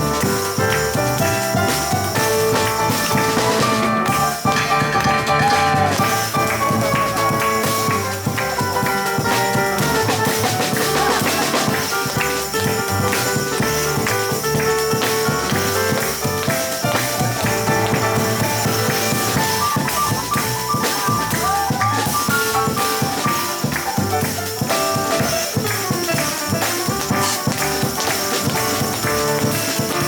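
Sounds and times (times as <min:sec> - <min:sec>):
double bass: 0:00.0 - 0:30.0
piano: 0:00.0 - 0:30.0.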